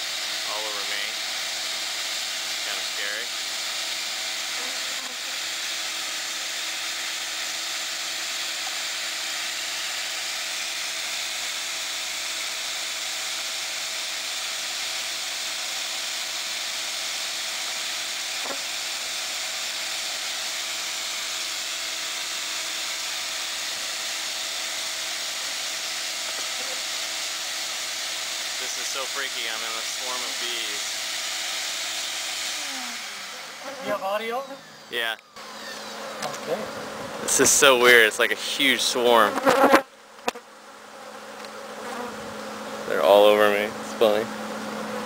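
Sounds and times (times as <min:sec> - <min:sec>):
swarm of bees buzzing: 0:02.2 - 0:31.0, 0:32.4 - 0:45.0.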